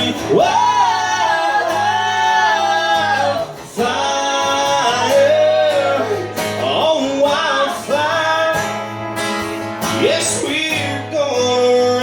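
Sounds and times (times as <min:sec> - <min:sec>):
guitar accompaniment: 0:00.0 - 0:12.0
person singing country song: 0:00.0 - 0:12.0.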